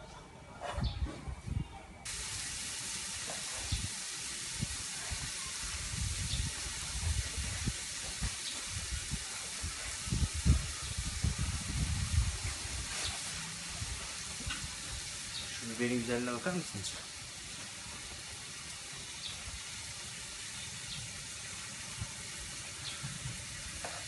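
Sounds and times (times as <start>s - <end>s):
steady hiss: 2.0s - 24.0s.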